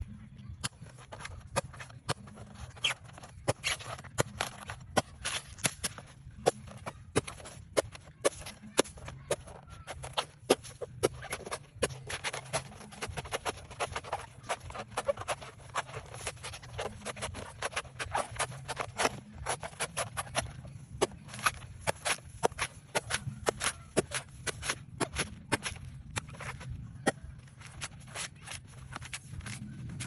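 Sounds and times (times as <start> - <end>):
husk scraping and tearing: 1.0 - 26.7.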